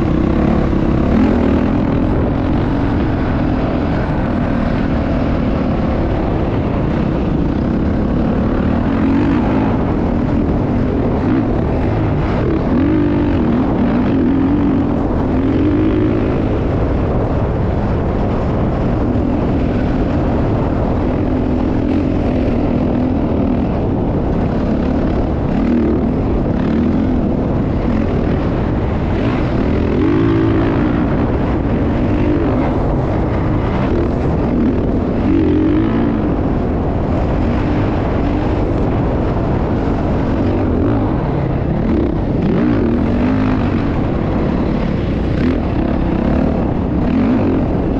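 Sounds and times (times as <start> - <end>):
dirt bike engine revving: 0.0 - 47.9
steady rushing noise: 0.0 - 47.9.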